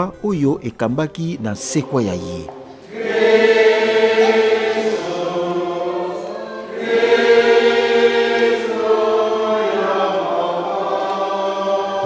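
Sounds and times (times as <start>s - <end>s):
congregation singing a hymn: 0.7s - 12.0s.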